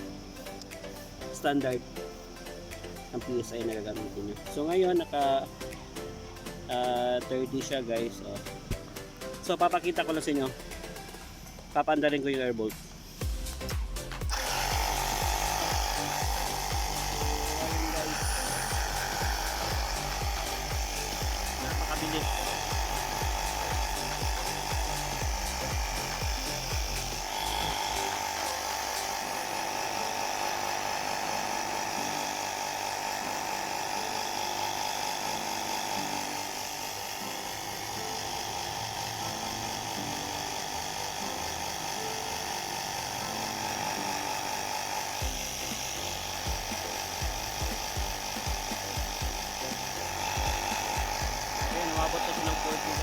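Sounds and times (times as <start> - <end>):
air compressor humming: 0.0 - 53.0.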